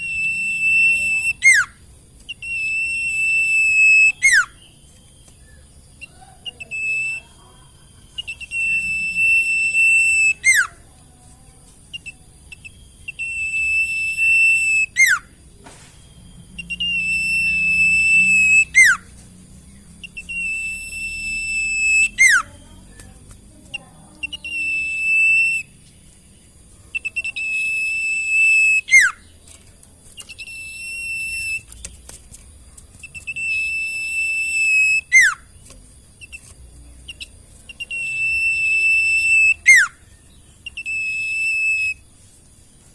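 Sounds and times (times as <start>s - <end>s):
bird whistling song: 0.0s - 42.9s.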